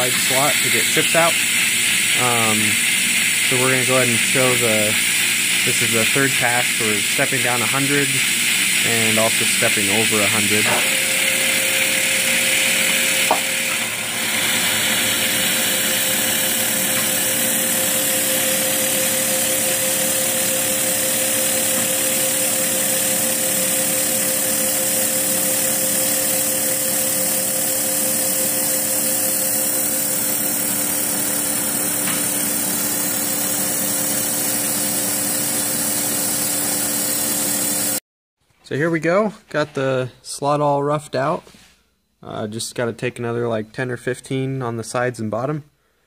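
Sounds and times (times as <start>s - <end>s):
milling machine humming: 0.0s - 38.0s.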